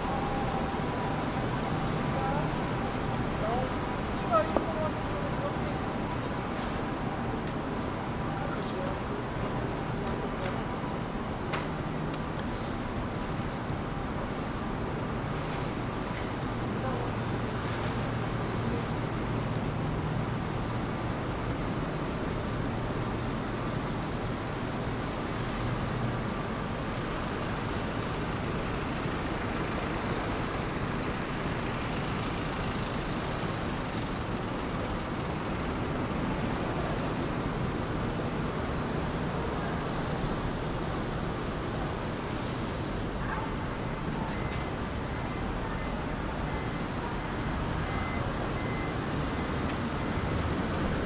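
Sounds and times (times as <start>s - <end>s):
city street traffic: 0.0s - 51.0s.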